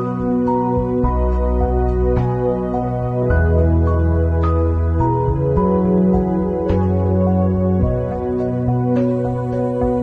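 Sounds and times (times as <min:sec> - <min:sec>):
slow sustained instrumental chords: 0:00.0 - 0:10.0.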